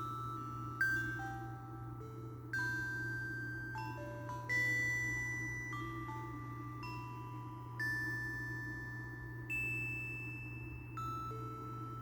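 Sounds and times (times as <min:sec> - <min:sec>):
phone ringtone melody: 0:00.0 - 0:12.0
steady low hum: 0:00.0 - 0:12.0.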